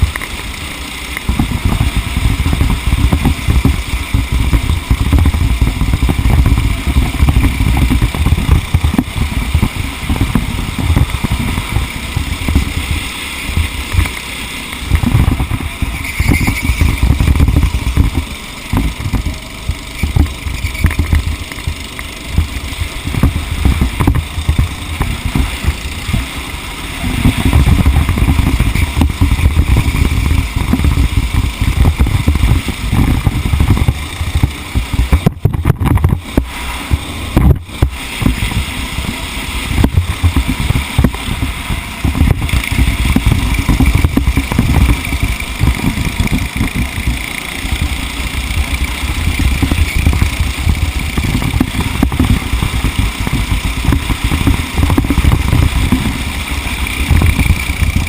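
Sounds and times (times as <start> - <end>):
racing engine running: 0.0 - 58.0
wind rumble on microphone: 0.0 - 58.0.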